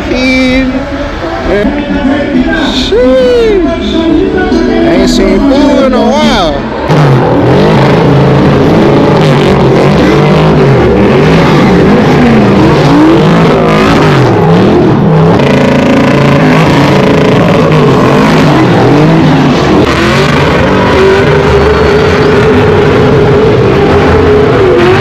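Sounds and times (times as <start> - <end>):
vehicle engines revving: 0.0 - 25.0.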